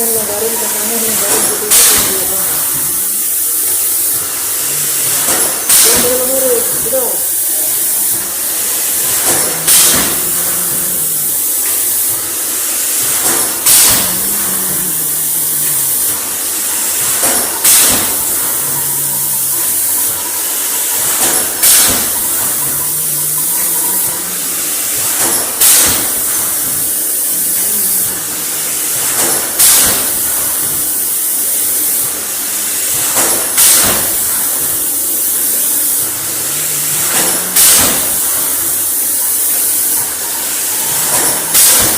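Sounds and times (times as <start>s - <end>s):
machine hissing: 0.0s - 41.9s
sharp bursts of machine noise: 0.0s - 41.9s.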